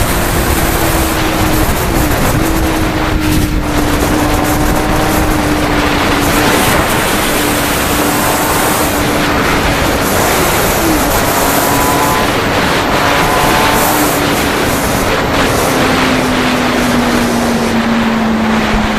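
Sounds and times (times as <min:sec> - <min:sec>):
motorcycle engine running: 0:00.0 - 0:18.9
wind rushing over microphone: 0:00.0 - 0:18.9.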